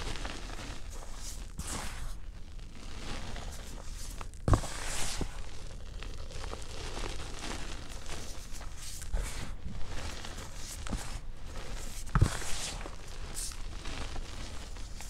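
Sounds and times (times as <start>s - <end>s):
hands crunching powdery chalk: 0.0s - 15.0s.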